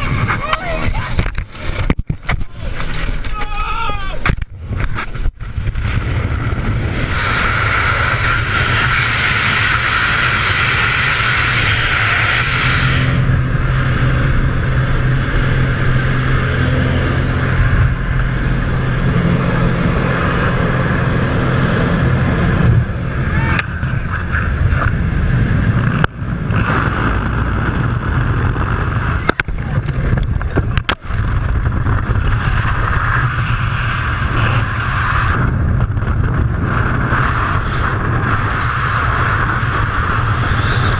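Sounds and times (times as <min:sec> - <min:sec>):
wind buffeting microphone: 0:00.0 - 0:40.9
low hum: 0:04.4 - 0:40.9.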